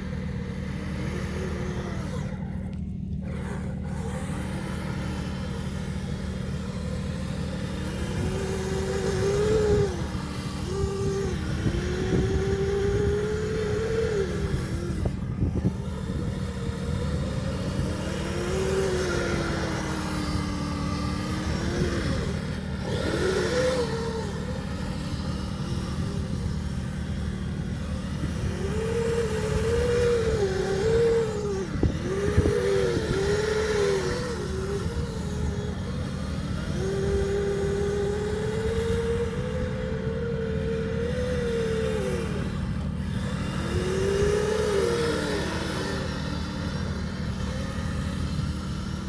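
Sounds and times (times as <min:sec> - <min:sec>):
electric motor whining: 0:00.0 - 0:49.0.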